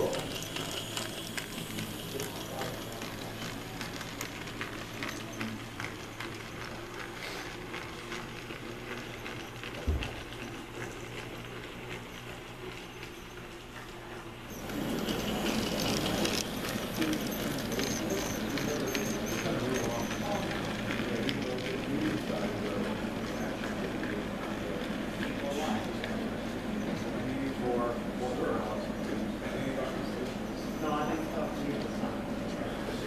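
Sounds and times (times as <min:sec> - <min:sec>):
model train wheels clicking: 0:00.0 - 0:33.0.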